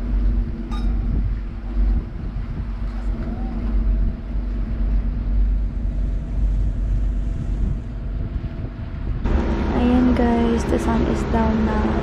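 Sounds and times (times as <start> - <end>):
motor boat engine droning: 0.0 - 12.0.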